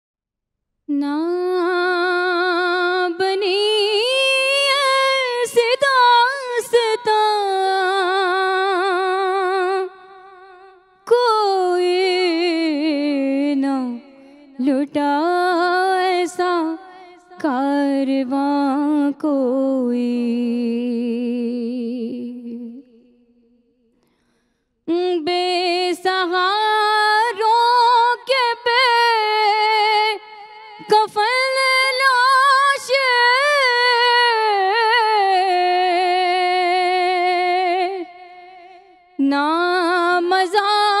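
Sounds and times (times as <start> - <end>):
woman singing unaccompanied: 0.9 - 10.3, 11.1 - 23.0, 24.9 - 41.0.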